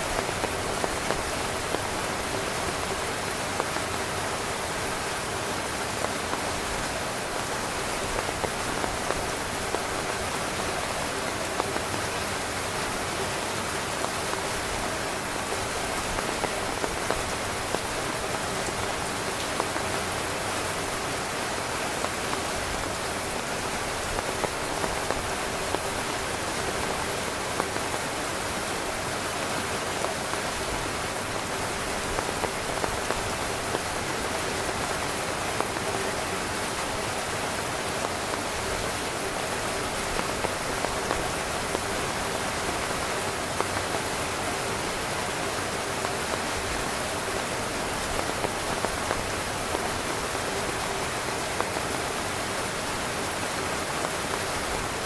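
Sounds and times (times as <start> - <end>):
heavy rain on tent fabric: 0.0 - 55.0.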